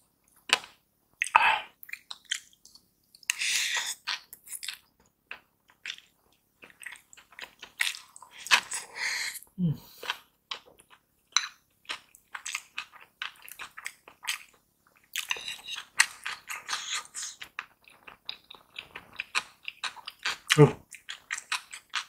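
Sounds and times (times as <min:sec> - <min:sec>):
close chewing mouth sounds: 0:00.5 - 0:22.0.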